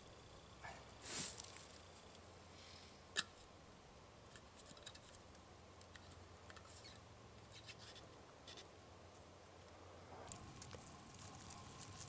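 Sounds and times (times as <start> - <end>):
faint ticks and rustles: 0.4 - 3.5, 4.2 - 12.0.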